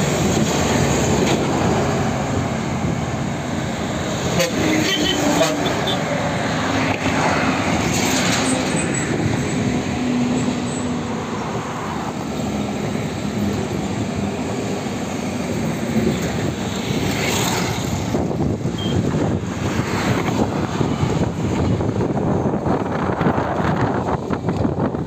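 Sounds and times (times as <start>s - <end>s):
heavy highway traffic: 0.0s - 25.0s
vehicles swishing past: 0.0s - 25.0s.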